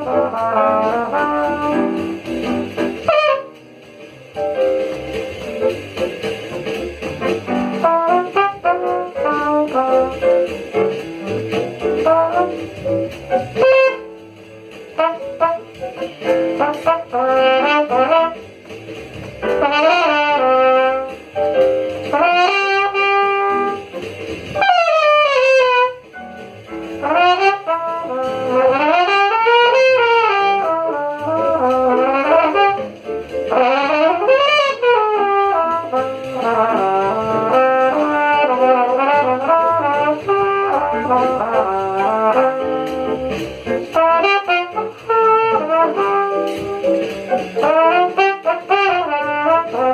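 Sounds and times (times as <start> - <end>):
jazz brass horn solo: 0.0 - 49.9.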